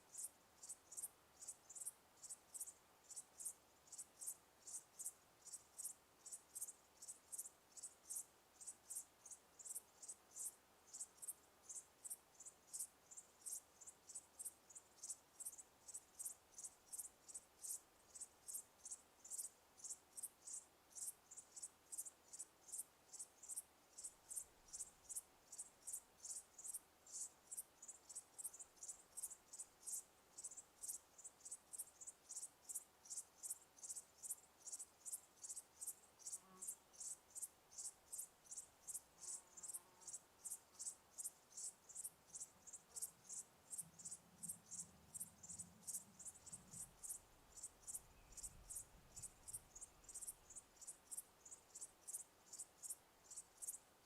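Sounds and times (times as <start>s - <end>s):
cricket chirping faintly: 0.0s - 54.0s.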